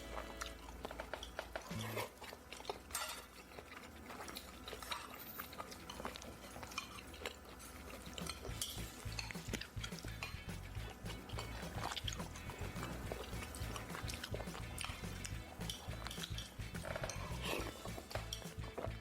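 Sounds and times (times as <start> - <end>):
utensils clinking on dishes: 0.0 - 3.4, 4.4 - 19.0
chewing: 0.0 - 19.0.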